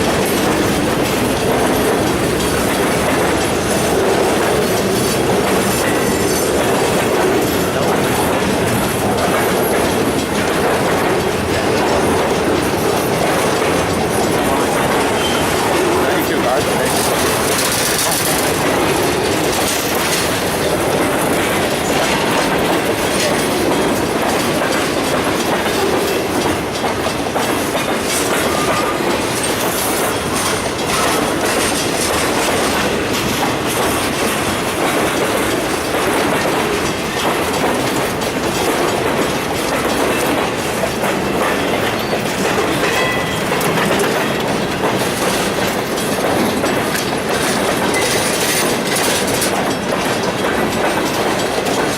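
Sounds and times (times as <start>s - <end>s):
train wheels clacking over rails: 0.0s - 51.9s.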